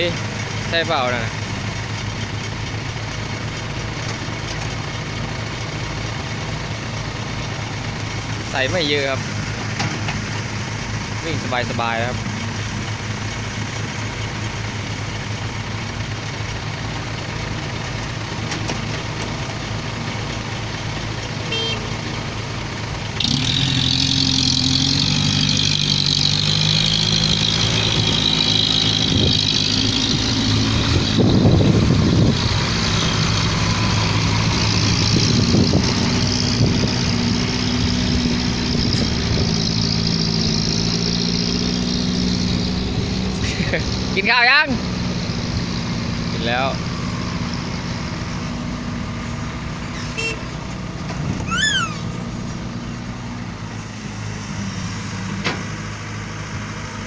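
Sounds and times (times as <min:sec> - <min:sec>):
diesel truck engine running: 0:00.0 - 0:57.0
road noise: 0:00.0 - 0:57.0.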